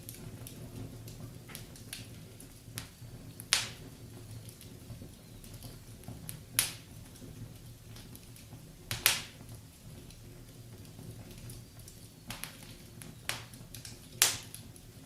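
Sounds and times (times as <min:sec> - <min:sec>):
loud fire pops: 0:00.0 - 0:15.0
wood fire crackling: 0:00.0 - 0:15.0.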